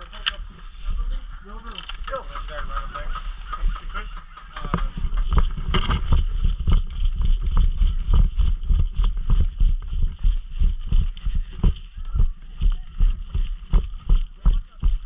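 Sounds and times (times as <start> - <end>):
wind buffeting microphone: 2.4 - 15.0.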